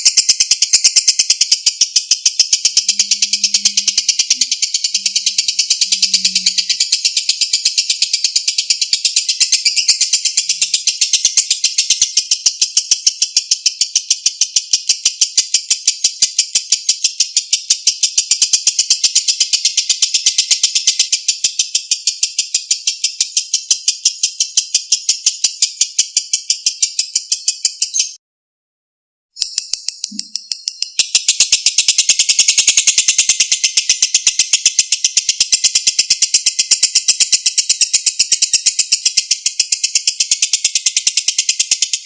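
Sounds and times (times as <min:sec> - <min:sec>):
lovebird chattering: 0:00.0 - 0:28.2, 0:29.4 - 0:42.0.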